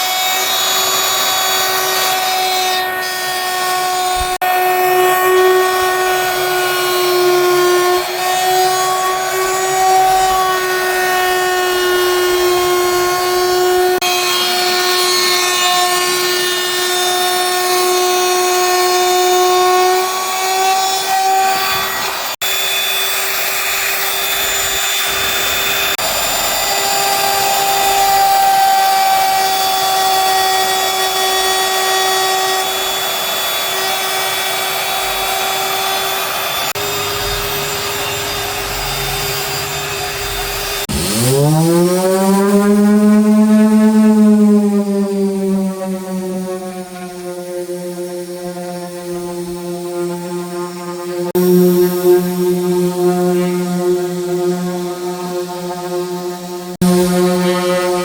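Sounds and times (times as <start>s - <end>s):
power tool whining on wood: 0.0s - 58.0s.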